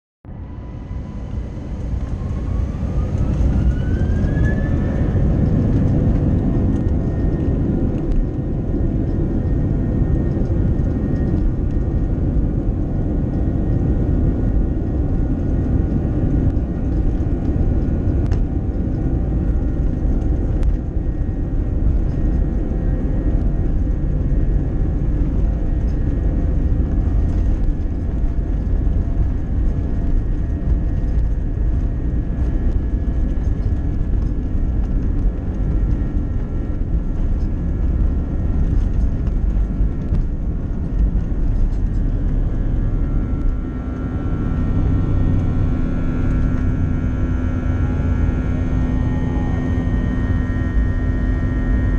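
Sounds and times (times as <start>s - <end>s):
jet engine whine: 0.3s - 51.9s
low engine rumble in cabin: 0.3s - 51.9s.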